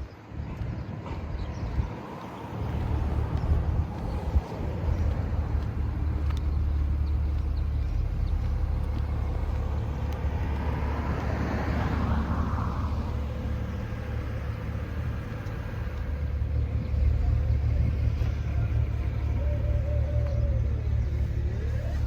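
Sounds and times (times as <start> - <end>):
car engine running: 2.3 - 22.0.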